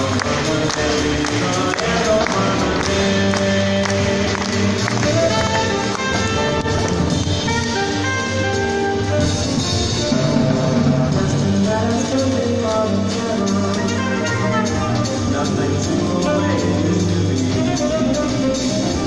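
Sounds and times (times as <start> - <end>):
double bass: 0.0 - 19.0
drums: 0.0 - 19.0
piano: 0.0 - 19.0
saxophone: 0.0 - 19.0.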